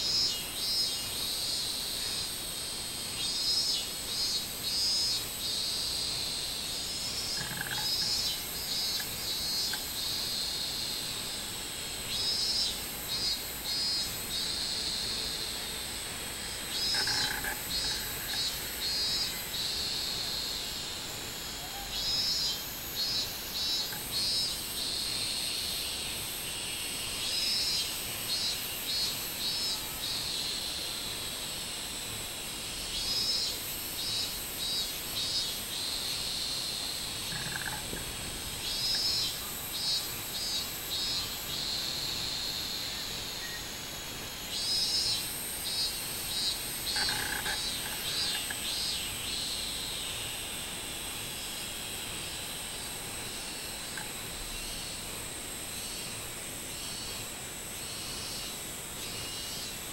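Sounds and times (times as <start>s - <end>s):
cicadas singing pulsing phrases: 0.0s - 59.9s
high-pitched insect drone: 0.0s - 59.9s.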